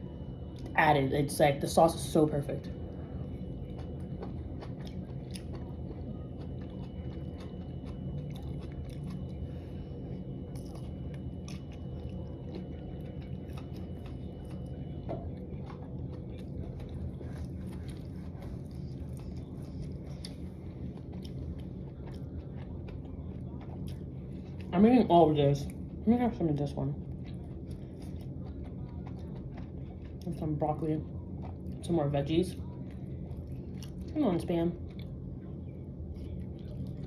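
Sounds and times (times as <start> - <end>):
chewing and biting food: 0.0 - 37.0
steady low hum: 0.0 - 37.0.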